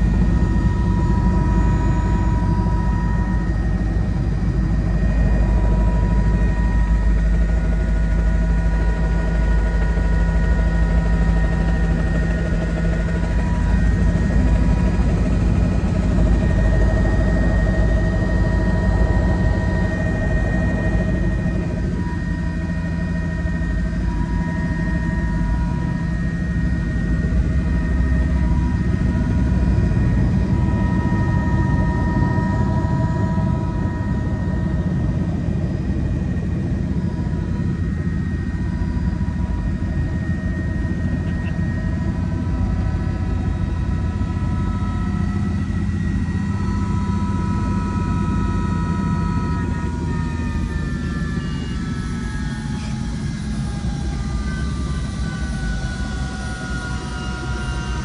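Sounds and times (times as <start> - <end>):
faint high whine: 0.0 - 58.0
helicopter engine and rotor drone: 0.0 - 58.0.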